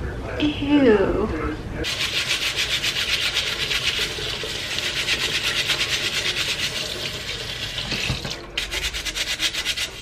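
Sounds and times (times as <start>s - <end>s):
scrub brush scrubbing mesh filter: 1.8s - 10.0s.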